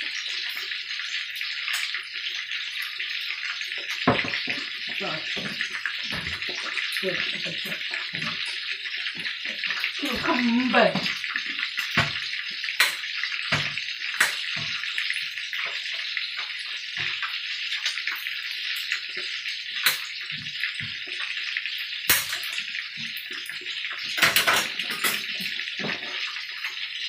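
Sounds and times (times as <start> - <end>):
hot oil sizzling: 0.0 - 27.0
oil popping and clicking: 0.0 - 27.0.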